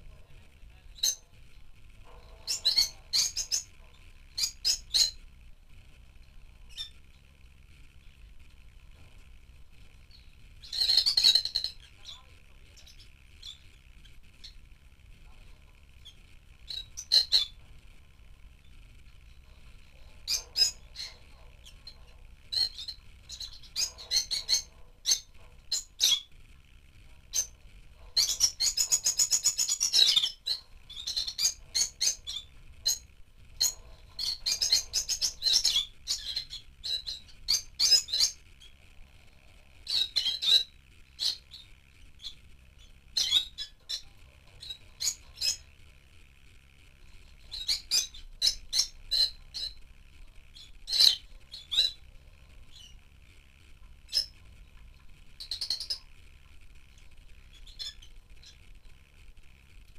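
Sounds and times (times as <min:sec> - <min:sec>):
rapid loud bird chattering: 0:00.0 - 0:05.4, 0:06.4 - 0:07.3, 0:09.9 - 0:46.0, 0:47.0 - 0:54.7, 0:55.3 - 0:59.2
lovebirds chirping: 0:00.0 - 0:45.8, 0:47.0 - 0:59.0.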